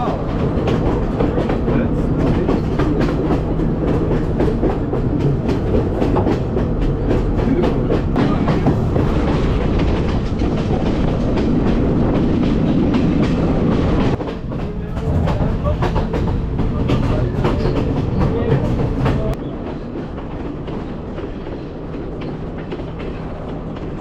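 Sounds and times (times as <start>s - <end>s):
train rumbling: 0.0s - 24.0s
wheels clacking over rails: 0.0s - 24.0s.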